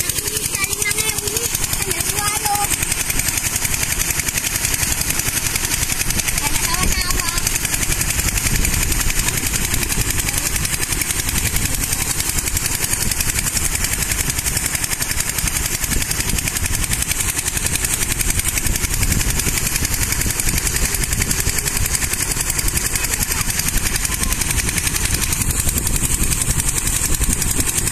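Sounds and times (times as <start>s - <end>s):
small engine running: 0.0s - 27.9s
water gushing and splashing: 0.0s - 27.9s.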